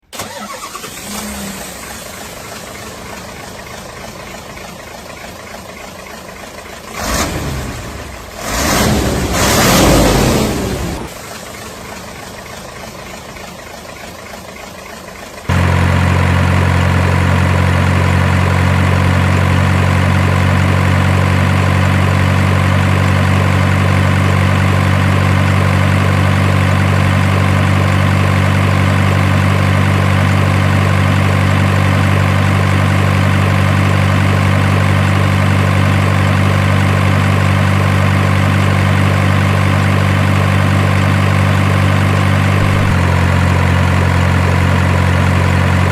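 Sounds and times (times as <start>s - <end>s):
heavy engine idling: 0.0s - 45.9s.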